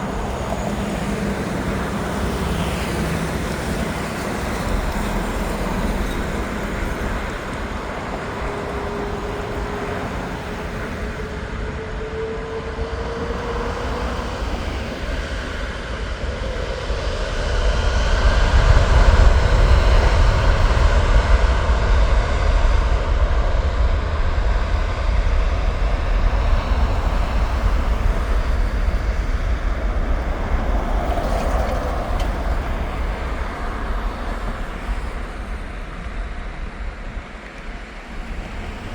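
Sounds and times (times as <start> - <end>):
jet engines roaring on takeoff: 0.0 - 38.9.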